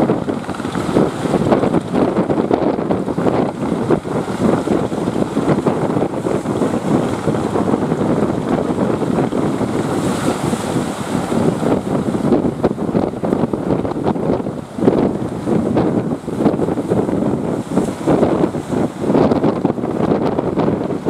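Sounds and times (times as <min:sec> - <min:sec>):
sea surf: 0:00.0 - 0:21.0
wind buffeting microphone: 0:00.0 - 0:21.0.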